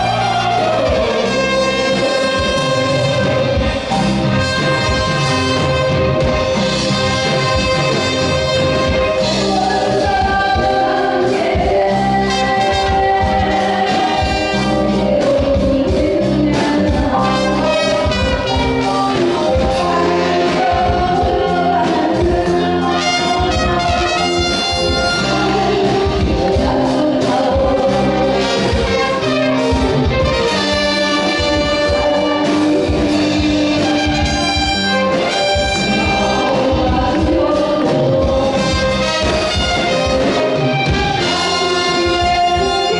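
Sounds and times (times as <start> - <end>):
woman singing into microphone: 0.0 - 6.1, 8.6 - 42.9
drums: 0.0 - 42.9
trombone: 0.0 - 42.9
trumpet: 0.0 - 42.9.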